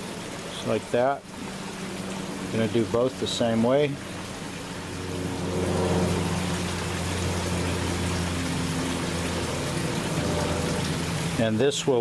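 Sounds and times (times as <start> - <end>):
constant hiss: 0.0 - 12.0
small motor humming: 1.2 - 11.4.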